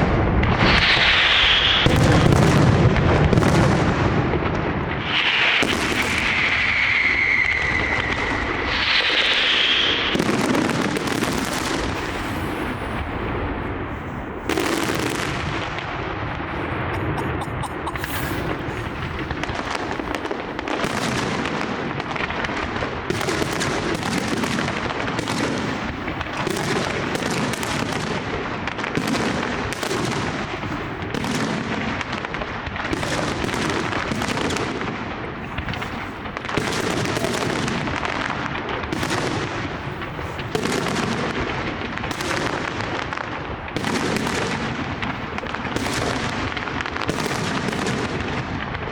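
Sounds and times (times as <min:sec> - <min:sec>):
sharp firework reports: 0:00.0 - 0:43.0.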